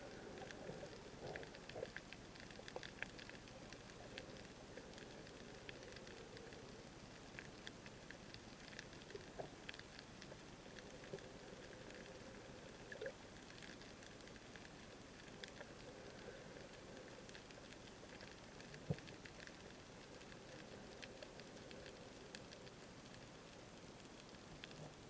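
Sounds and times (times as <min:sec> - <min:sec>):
small clicks and crackles: 0:00.0 - 0:25.0.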